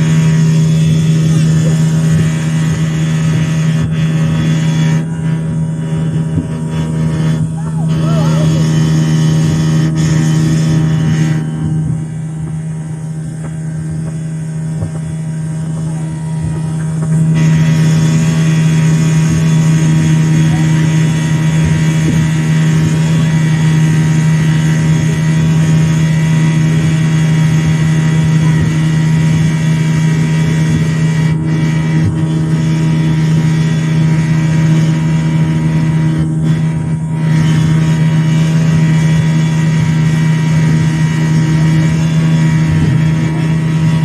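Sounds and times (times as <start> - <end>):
outboard motor droning: 0.0 - 44.0.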